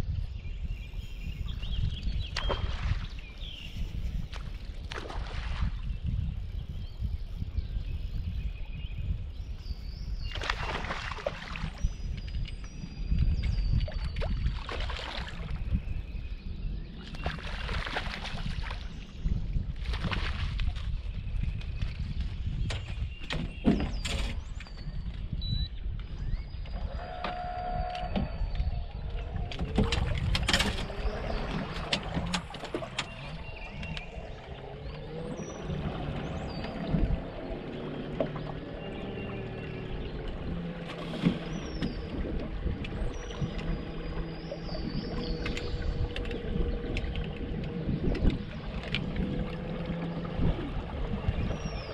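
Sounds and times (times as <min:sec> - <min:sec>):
wind and water rumble: 0:00.0 - 0:51.9.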